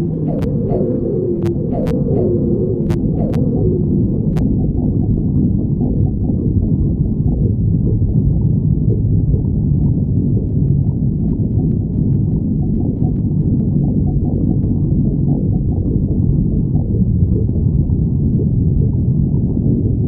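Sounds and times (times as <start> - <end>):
stomach growling: 0.0 - 20.0.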